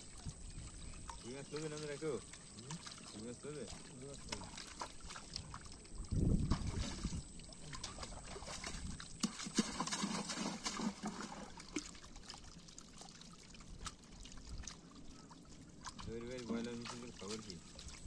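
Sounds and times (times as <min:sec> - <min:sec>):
small splashes and drips: 0:00.0 - 0:18.0
water sloshing and trickling: 0:00.0 - 0:18.0.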